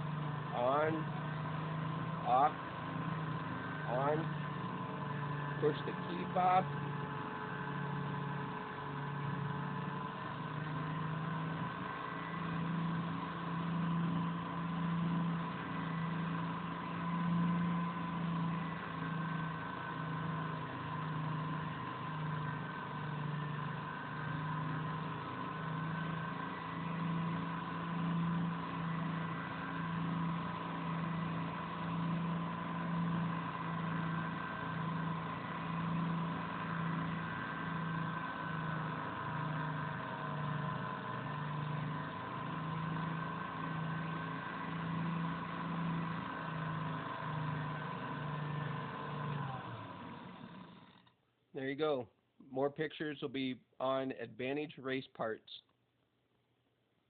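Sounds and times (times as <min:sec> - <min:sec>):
machine drone with pulsing hum: 0:00.0 - 0:51.7.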